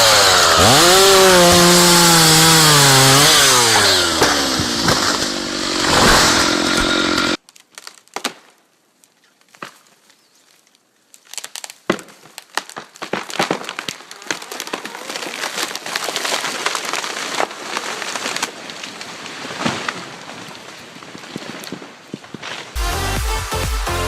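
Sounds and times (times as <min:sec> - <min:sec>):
tree crashing through branches: 0:00.0 - 0:08.4, 0:11.2 - 0:22.8
wood cracking: 0:00.0 - 0:22.8.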